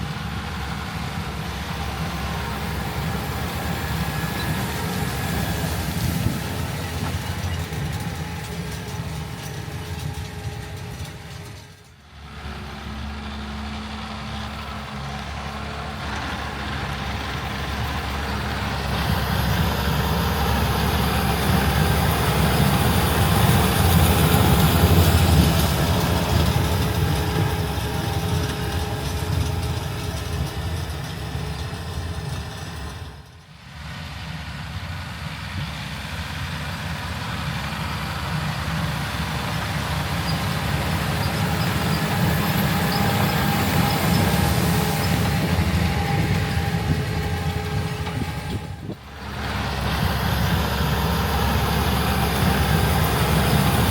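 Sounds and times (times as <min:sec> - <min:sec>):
diesel machinery engine drone: 0:00.0 - 0:53.9.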